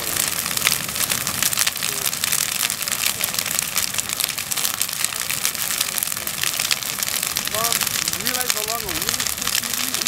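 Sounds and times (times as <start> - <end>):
burning timber crackling: 0.0 - 10.0
fire hissing: 0.0 - 10.0.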